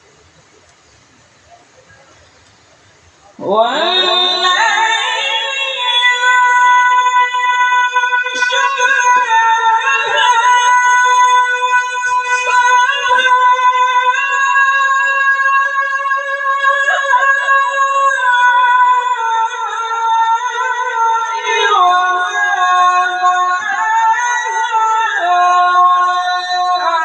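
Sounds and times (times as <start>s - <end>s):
person reciting melodically: 3.2s - 27.0s.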